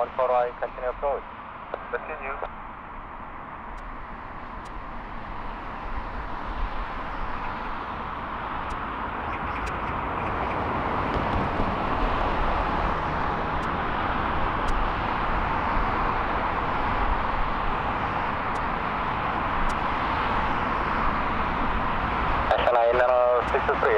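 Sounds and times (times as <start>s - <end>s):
jet engines rushing: 3.4s - 23.9s.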